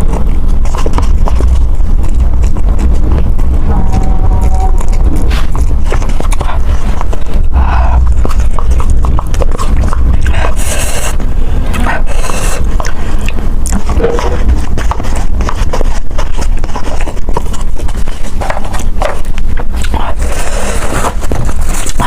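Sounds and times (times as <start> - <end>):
steady low rumble: 0.0 - 22.0
wet chewing and smacking: 0.0 - 22.0.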